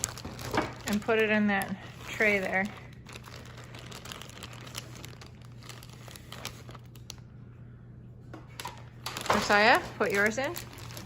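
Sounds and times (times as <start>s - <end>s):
plastic crinkling: 0.0s - 7.3s, 8.5s - 11.0s.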